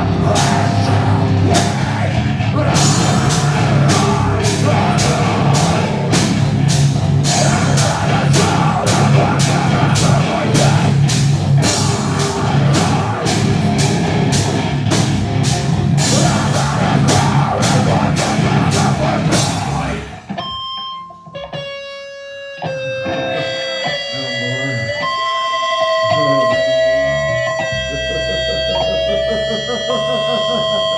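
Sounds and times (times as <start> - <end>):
clean guitar notes ringing: 0.0 - 30.9
heavy metal band playing: 0.0 - 30.9.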